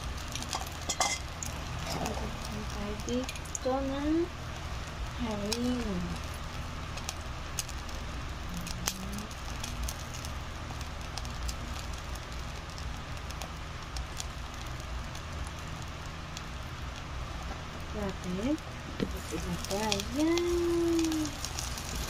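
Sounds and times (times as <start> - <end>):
oil crackling and popping: 0.0 - 22.0
steady low hum: 0.0 - 22.0.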